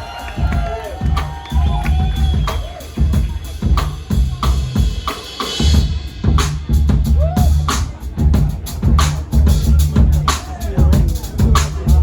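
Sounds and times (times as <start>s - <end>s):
drum kit groove: 0.0s - 12.0s
electric bass: 0.4s - 5.0s, 5.6s - 12.0s.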